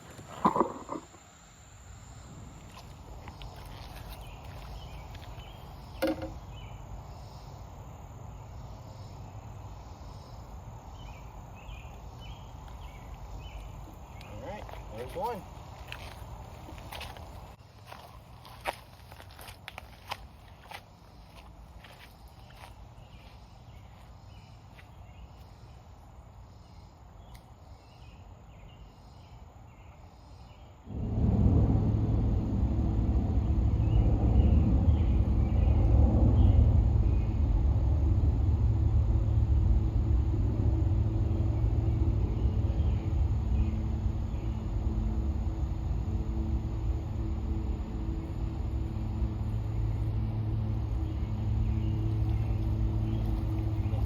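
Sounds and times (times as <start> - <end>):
steady low rumble: 0.0 - 26.4, 30.8 - 54.0
faint insect chirps: 0.0 - 31.2, 31.8 - 54.0.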